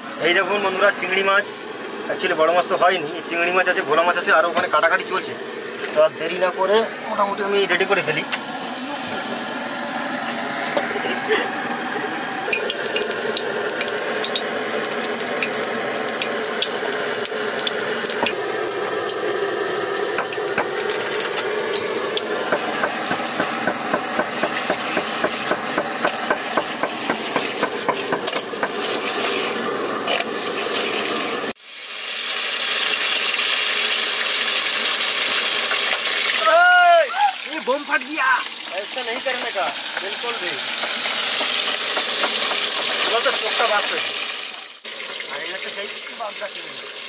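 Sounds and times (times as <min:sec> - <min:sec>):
fish sizzling in hot oil: 0:00.0 - 0:47.0.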